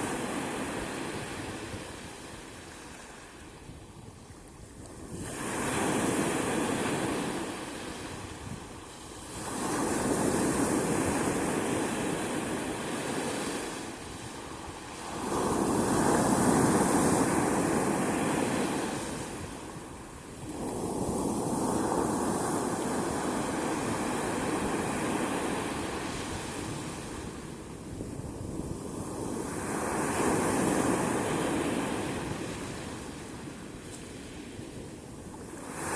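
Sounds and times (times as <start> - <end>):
sea waves washing onto shore: 0.0 - 35.9.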